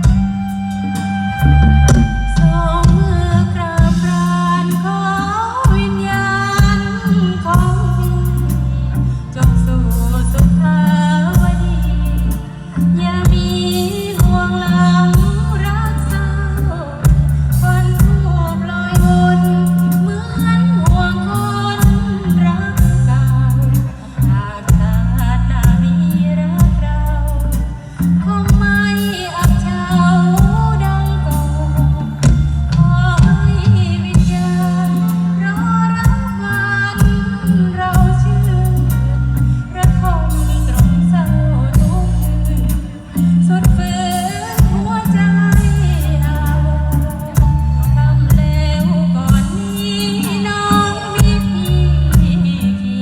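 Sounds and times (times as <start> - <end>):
strong bass line: 0.0 - 53.0
woman singing with a band: 0.0 - 53.0.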